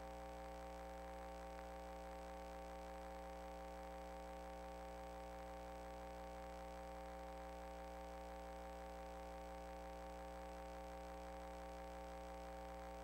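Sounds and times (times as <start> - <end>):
steady electronic hum: 0.0 - 13.0.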